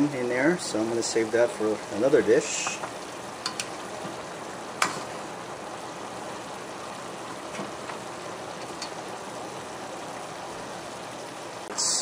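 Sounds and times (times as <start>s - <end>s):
stew bubbling: 0.6s - 12.0s.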